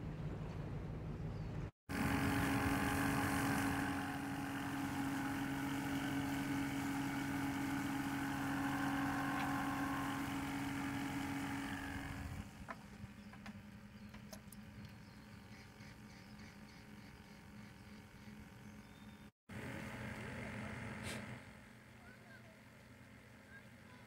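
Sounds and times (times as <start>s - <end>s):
aerator pump humming: 1.9s - 24.0s.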